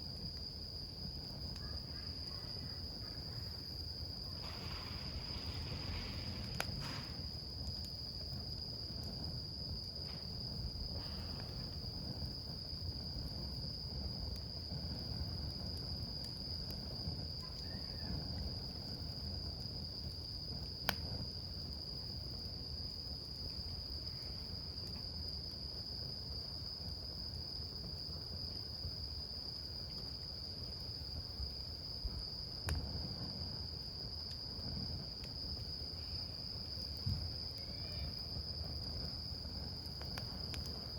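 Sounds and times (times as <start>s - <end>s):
campfire crackling: 0.0s - 40.9s
insect trill: 0.0s - 40.9s.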